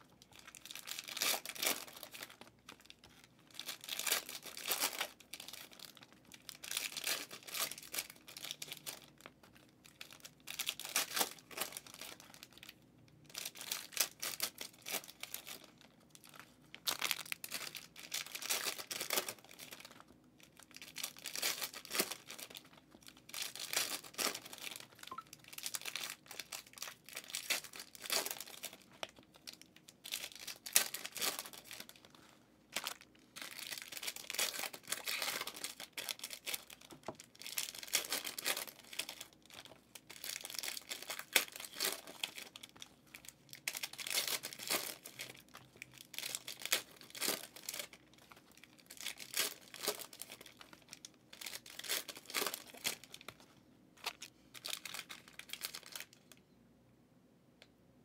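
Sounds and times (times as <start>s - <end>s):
foil wrappers crinkling and tearing: 0.1s - 53.4s, 54.0s - 56.4s.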